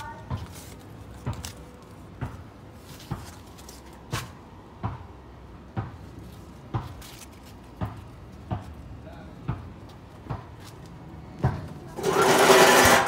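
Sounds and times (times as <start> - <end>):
footsteps on concrete: 0.0 - 13.0.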